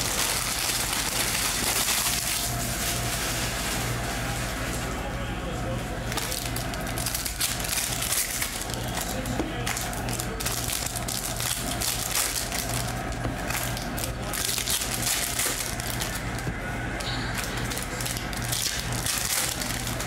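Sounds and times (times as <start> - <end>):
foil wrapper crinkling: 0.0 - 4.5, 6.1 - 16.5, 17.3 - 20.0.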